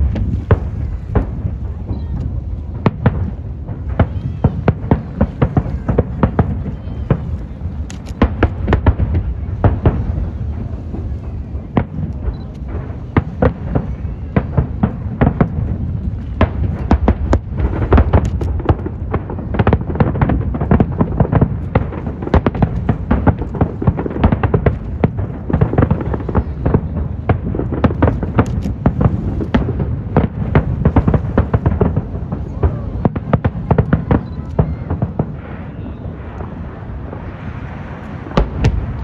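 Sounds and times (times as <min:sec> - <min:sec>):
fireworks bursting and crackling: 0:00.0 - 0:39.0
low rumble: 0:00.0 - 0:39.0.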